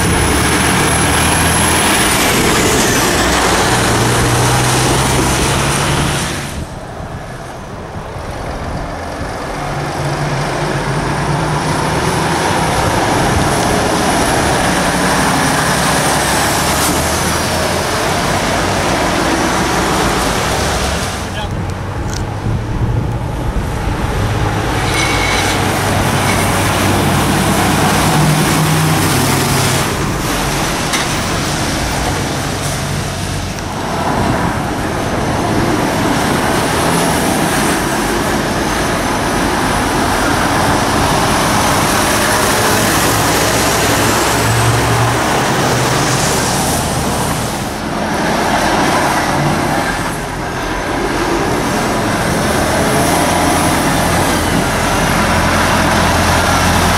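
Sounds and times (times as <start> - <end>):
lorry diesel engines running: 0.0 - 56.9
tyre and traffic noise: 0.0 - 56.9.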